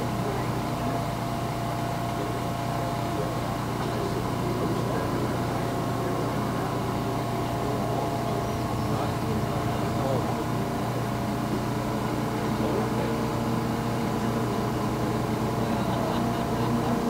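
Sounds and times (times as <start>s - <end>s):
distant racing boat engines whining: 0.0s - 17.0s.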